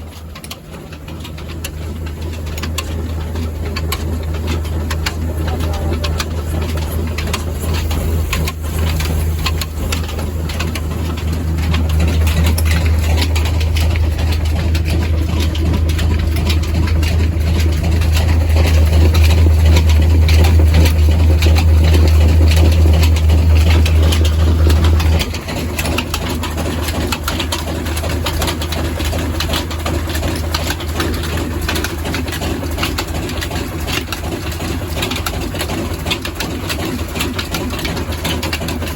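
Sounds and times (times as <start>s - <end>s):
diesel engine knocking: 0.0s - 38.9s
loud low hum: 0.8s - 34.9s.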